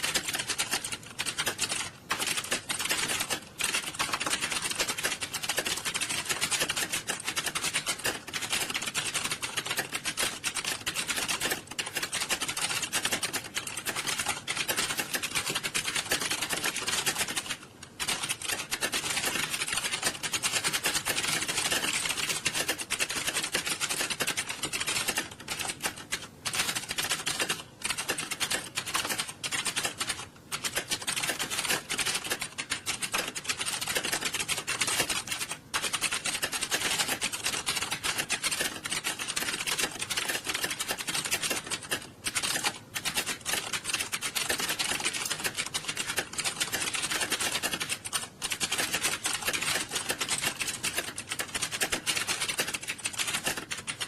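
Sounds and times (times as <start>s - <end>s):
keyboards clattering: 0.0s - 54.0s.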